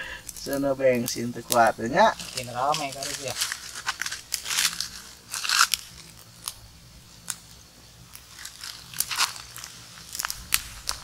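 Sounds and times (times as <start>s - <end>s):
fire crackling: 0.0s - 11.0s
dry litter snapping and crunching: 0.2s - 6.6s, 7.2s - 11.0s.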